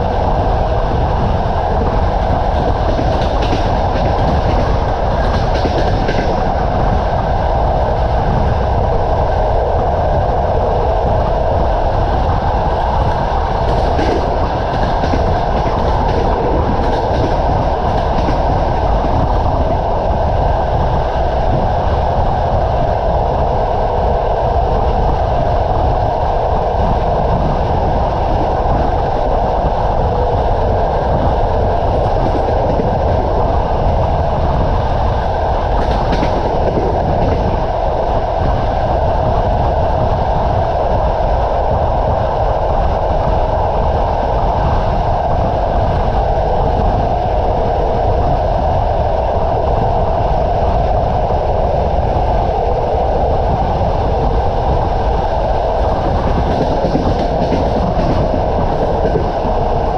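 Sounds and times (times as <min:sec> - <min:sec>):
rushing air: 0:00.0 - 0:59.9
train wheels rumbling on rails: 0:00.0 - 0:59.9.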